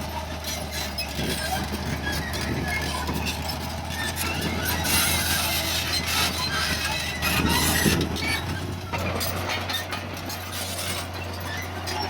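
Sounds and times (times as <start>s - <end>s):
diesel engine drone: 0.0s - 12.0s
metallic clanks and squeaks: 0.1s - 12.0s.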